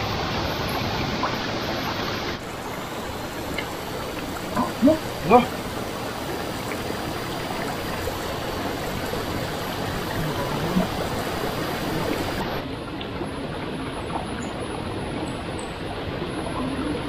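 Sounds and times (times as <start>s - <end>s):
stream rushing over stones: 0.0s - 13.9s.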